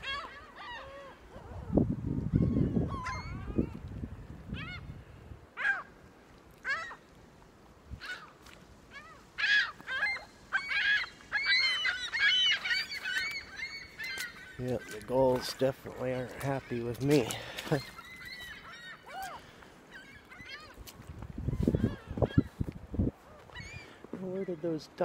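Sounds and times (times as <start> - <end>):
gulls calling: 0.0 - 3.8, 4.5 - 6.0, 6.6 - 7.2, 7.9 - 25.0.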